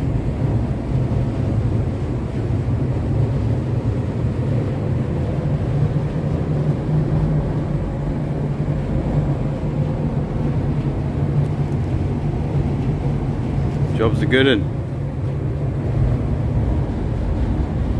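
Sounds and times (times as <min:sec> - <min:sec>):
low mechanical rumble: 0:00.0 - 0:17.9.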